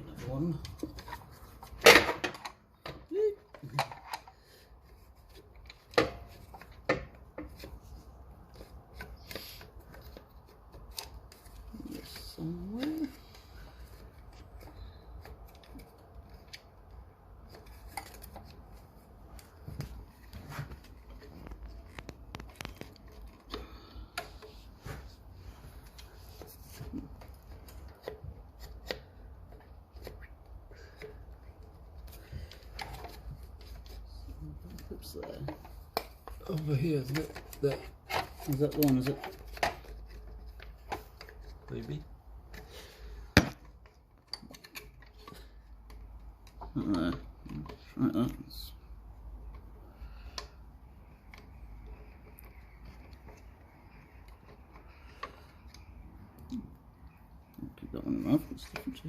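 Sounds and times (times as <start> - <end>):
rubbing and rustling: 0.0 - 2.8, 3.5 - 59.0
hands handling saw parts: 0.0 - 59.0.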